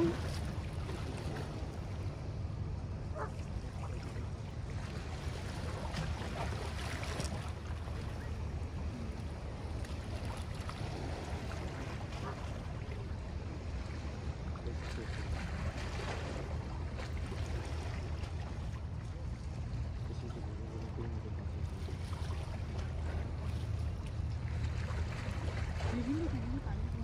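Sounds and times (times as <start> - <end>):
steady low rumble: 0.0 - 27.0
waves lapping against rocks: 0.0 - 27.0.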